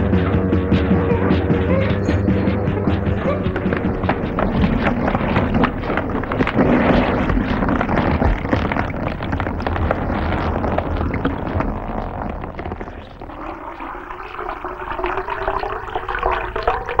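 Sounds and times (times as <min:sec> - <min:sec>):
low crackling rumble: 0:00.0 - 0:17.0.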